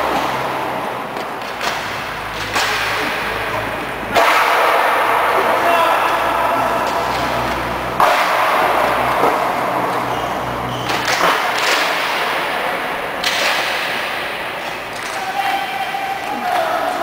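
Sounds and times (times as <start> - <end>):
echoing sports hall noise: 0.0 - 17.0.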